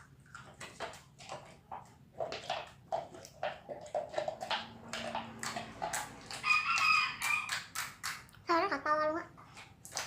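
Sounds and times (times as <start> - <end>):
slime squelching: 0.0 - 10.0.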